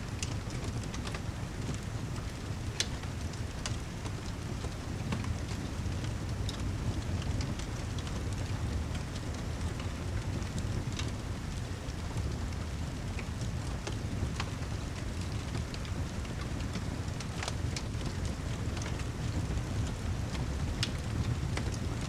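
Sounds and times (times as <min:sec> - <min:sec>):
sharp ticks and crackles: 0:00.2 - 0:22.0.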